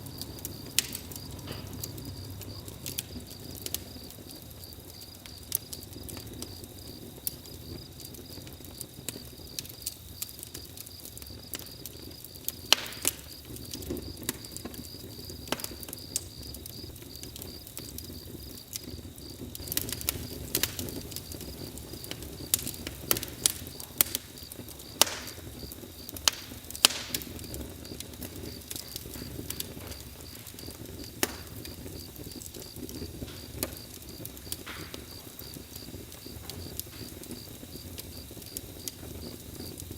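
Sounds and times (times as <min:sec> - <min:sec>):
crickets chirping: 0:00.0 - 0:39.9
wood fire crackling and popping: 0:00.0 - 0:39.9.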